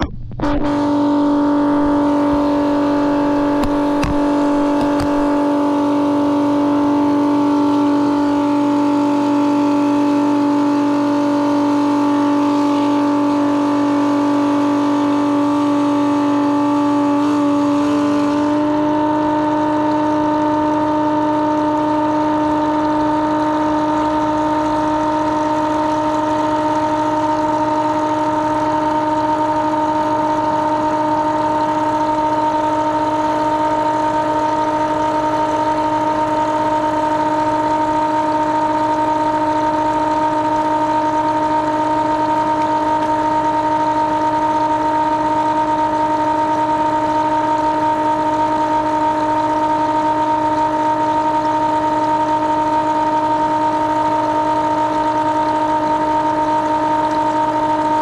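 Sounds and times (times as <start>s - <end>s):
water pump motor humming: 0.0s - 58.0s
water pumping through hoses: 0.6s - 58.0s.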